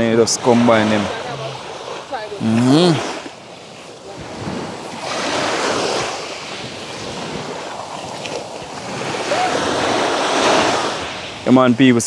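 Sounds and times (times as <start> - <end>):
surf washing onto pebble beach: 0.2 - 11.5.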